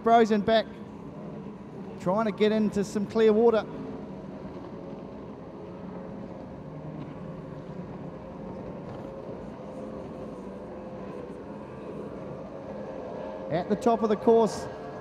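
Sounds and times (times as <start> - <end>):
powerboat engines droning: 0.0 - 15.0.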